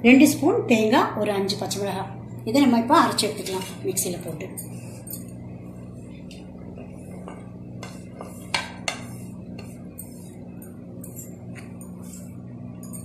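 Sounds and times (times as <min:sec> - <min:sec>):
low hum: 0:01.4 - 0:13.0.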